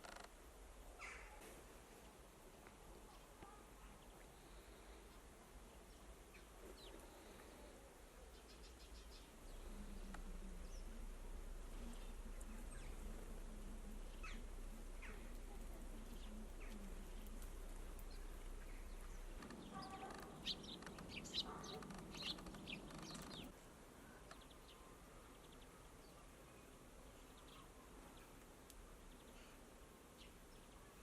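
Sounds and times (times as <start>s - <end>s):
faint low hum: 0.0s - 31.0s
small songbirds chirping: 0.0s - 31.0s.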